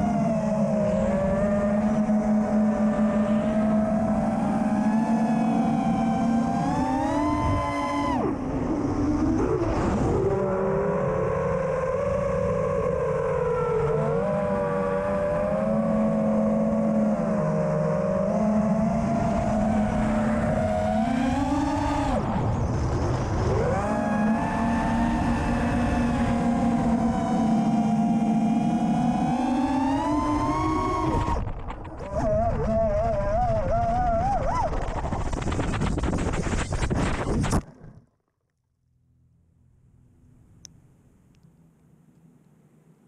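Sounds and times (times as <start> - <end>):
drone motors whining: 0.0 - 37.6.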